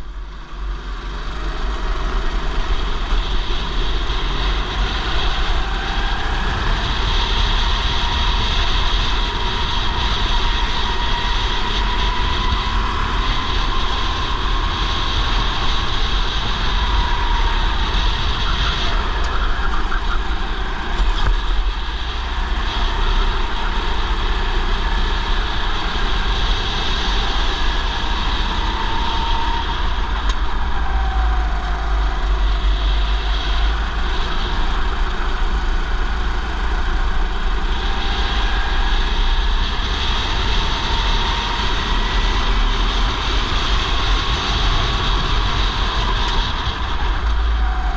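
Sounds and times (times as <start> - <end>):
go-kart engine racing: 0.0 - 47.9
wind rumble on microphone: 0.0 - 47.9.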